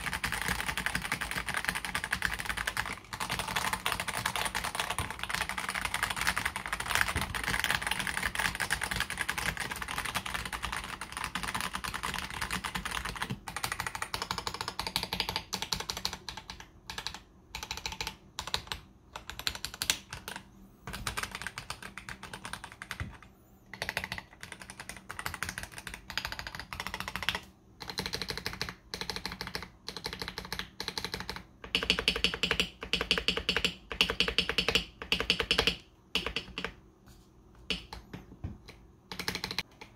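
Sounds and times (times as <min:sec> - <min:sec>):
mechanical keyboard typing: 0:00.0 - 0:36.8, 0:37.6 - 0:39.9.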